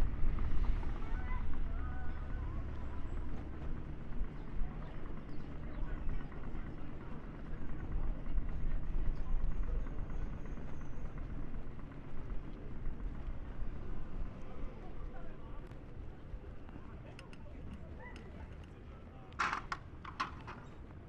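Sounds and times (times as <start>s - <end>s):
wind and road noise rumble: 0.0s - 21.0s.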